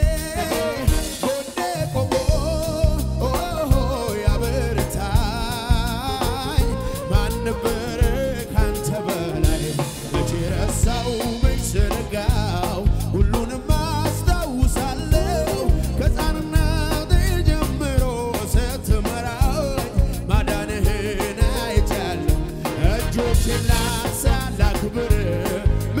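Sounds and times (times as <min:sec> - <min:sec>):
drum kit beat: 0:00.0 - 0:26.0
electric guitars: 0:00.0 - 0:26.0
keyboard: 0:00.0 - 0:26.0
person singing: 0:00.0 - 0:26.0.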